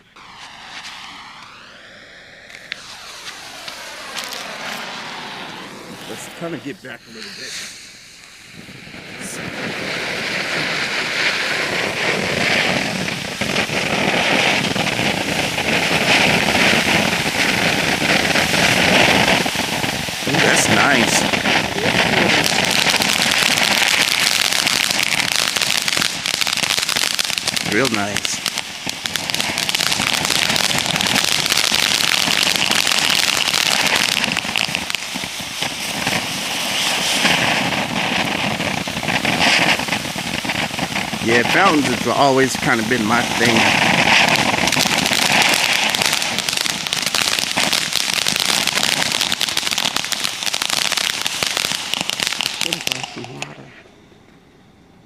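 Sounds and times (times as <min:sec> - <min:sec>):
firework fountain hissing and crackling: 0:00.0 - 0:53.8.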